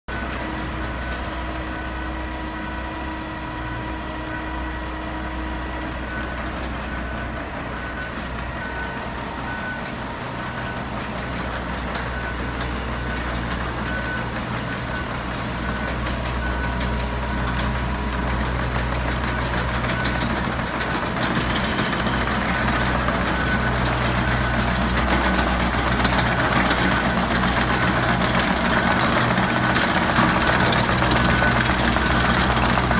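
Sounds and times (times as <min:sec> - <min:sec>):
heavy truck engine running: 0:00.1 - 0:32.9
reversing alarm beeping: 0:00.1 - 0:32.9.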